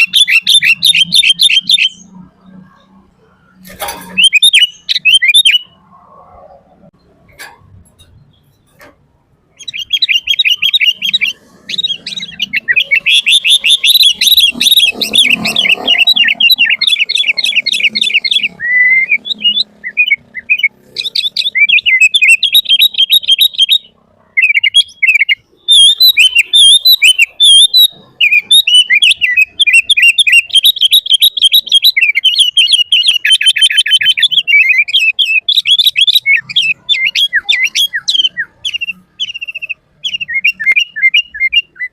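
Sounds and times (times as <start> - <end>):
bird singing chirps and whistles: 0.0 - 2.2, 4.0 - 5.8, 9.6 - 41.9.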